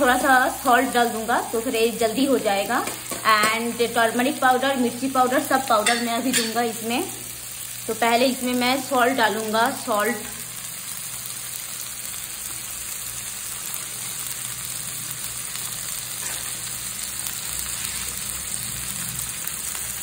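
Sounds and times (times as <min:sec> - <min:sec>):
onions frying in oil: 0:00.0 - 0:20.0.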